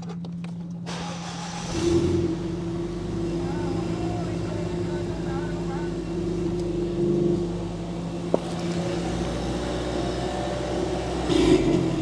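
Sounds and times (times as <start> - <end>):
car engine idling: 0.8 - 12.0.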